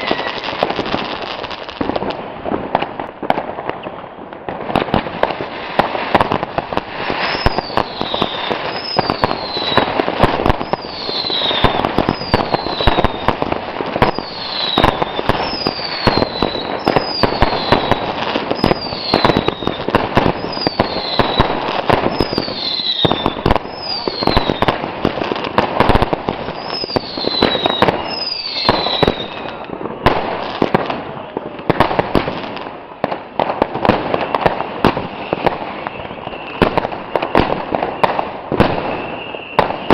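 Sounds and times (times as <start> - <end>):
fireworks bangs and crackling: 0.0 - 39.9
fireworks falling whistle: 0.0 - 39.9.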